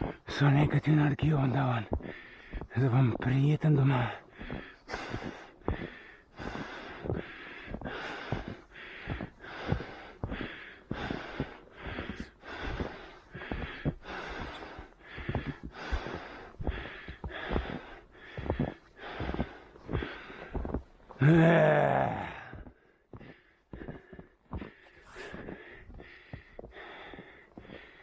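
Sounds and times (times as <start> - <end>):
footsteps in snow: 0.0 - 28.0
runner breathing hard: 1.8 - 2.7, 4.0 - 21.2, 22.1 - 28.0.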